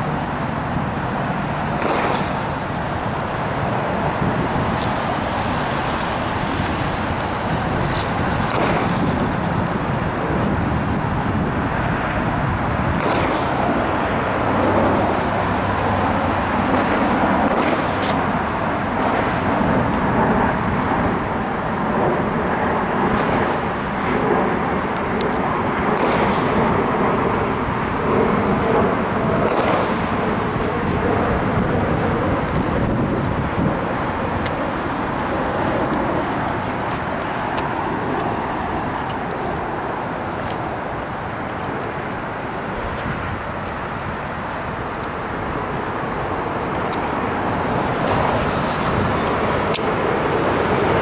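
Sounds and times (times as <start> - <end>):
road traffic noise: 0.0 - 51.0.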